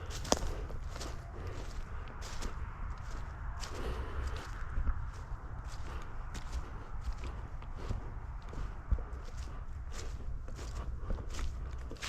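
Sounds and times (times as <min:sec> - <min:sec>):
footsteps outdoors: 0:00.0 - 0:12.0
low rumble on microphone: 0:00.0 - 0:12.0.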